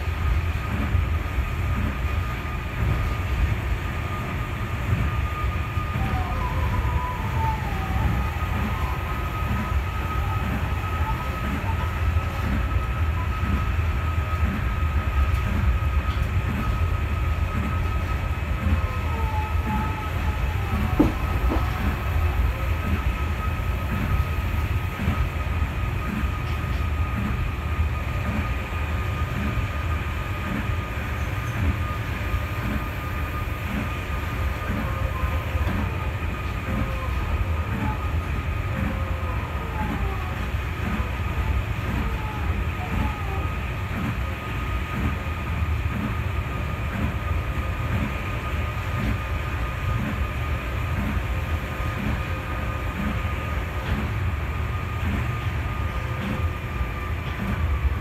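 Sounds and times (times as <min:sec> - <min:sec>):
monorail train rumble: 0:00.0 - 0:58.0
thin steady whine: 0:00.0 - 0:58.0.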